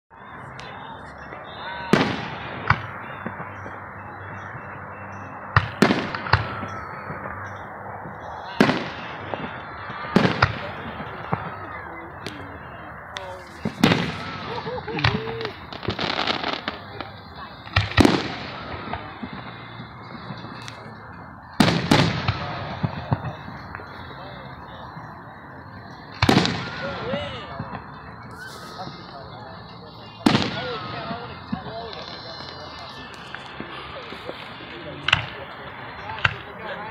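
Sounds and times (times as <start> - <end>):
steady background noise: 0.1 - 36.9.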